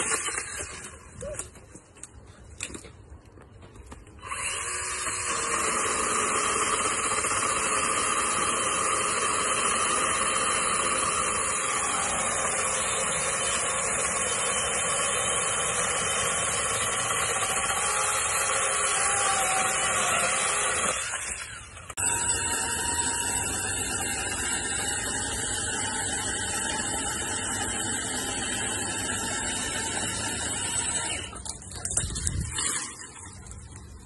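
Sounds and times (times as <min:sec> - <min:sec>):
electric pole saw cutting wood: 0:00.0 - 0:01.0, 0:04.2 - 0:33.5.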